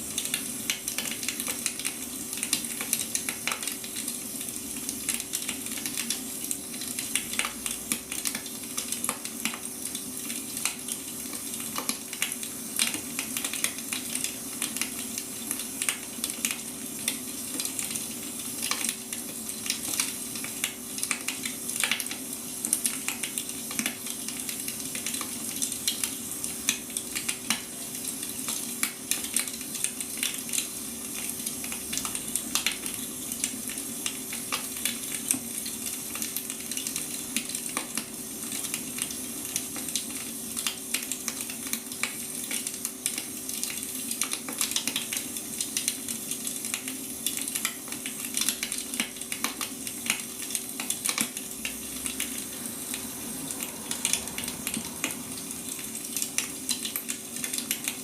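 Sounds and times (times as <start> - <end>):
wood fire crackling: 0.2 - 58.0.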